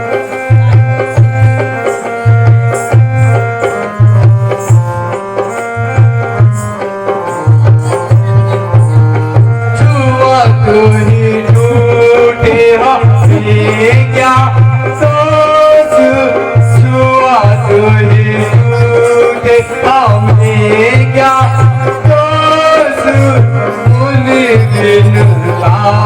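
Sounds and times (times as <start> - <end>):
hand drum beat: 0.0 - 26.0
held chord-like tones: 0.0 - 26.0
wavering melody line: 0.0 - 26.0.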